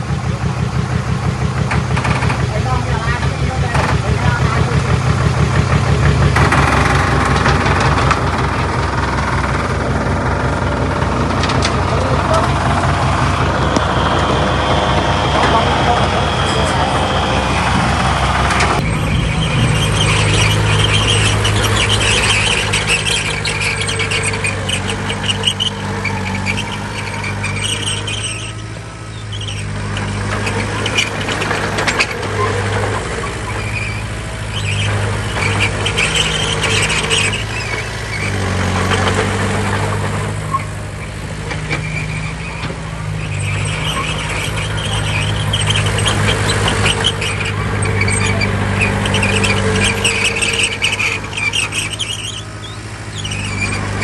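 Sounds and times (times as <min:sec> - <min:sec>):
crawler tracks squealing and clanking: 0:00.0 - 0:54.0
diesel bulldozer engine hum: 0:00.0 - 0:54.0.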